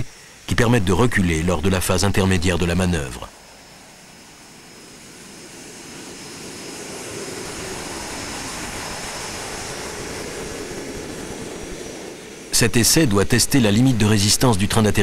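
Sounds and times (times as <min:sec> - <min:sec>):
faint high whine: 0:00.0 - 0:15.0
jet engines rushing: 0:00.0 - 0:15.0.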